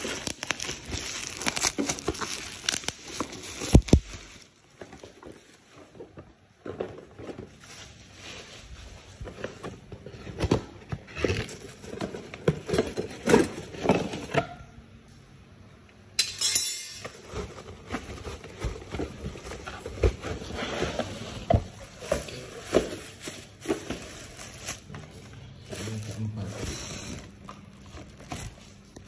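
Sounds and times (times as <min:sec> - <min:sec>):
packaging rustling: 0:00.0 - 0:14.4, 0:17.0 - 0:29.0.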